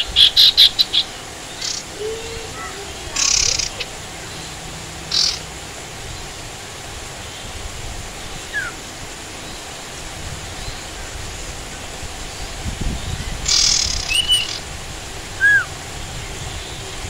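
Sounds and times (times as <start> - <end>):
songbird harsh calls: 0.0 - 6.5, 7.1 - 9.8, 11.8 - 16.9
rain hiss: 0.0 - 17.0.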